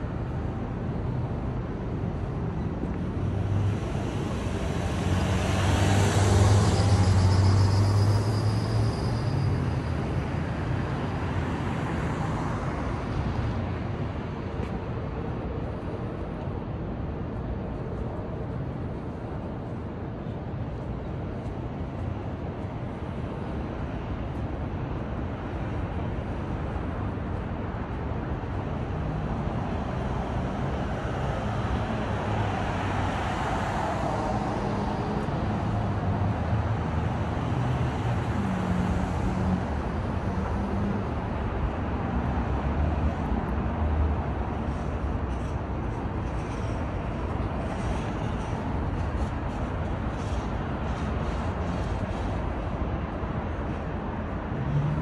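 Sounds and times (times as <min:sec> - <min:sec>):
passing cars and engine hum: 0:00.0 - 0:55.0.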